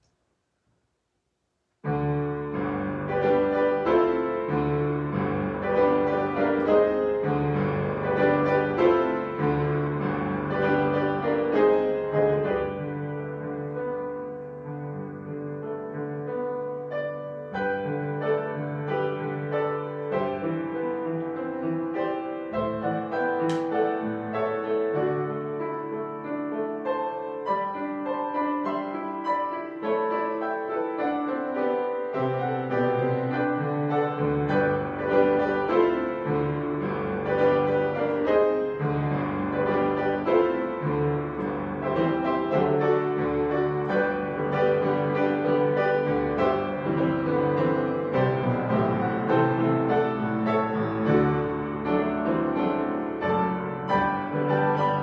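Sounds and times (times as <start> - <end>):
piano playing sustained notes: 1.9 - 55.0.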